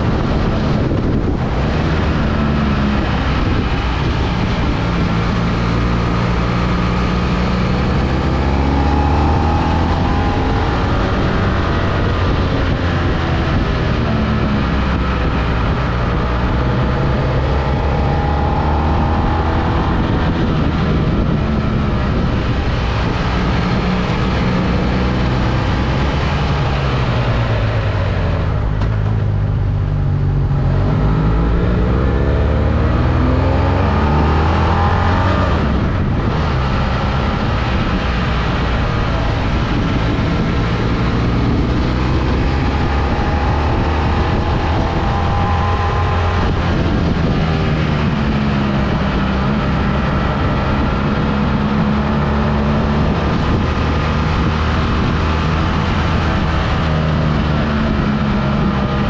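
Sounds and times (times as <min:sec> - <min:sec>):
road and wind noise: 0:00.0 - 0:59.0
vehicle engine: 0:00.0 - 0:59.0.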